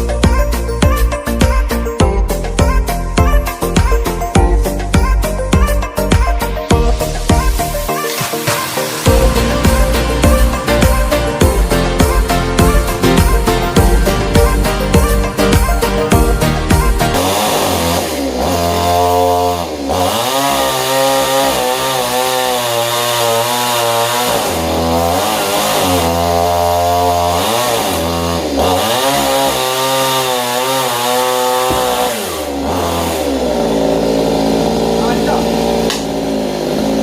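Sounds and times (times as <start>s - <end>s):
chainsaw cutting wood: 0.0s - 37.0s.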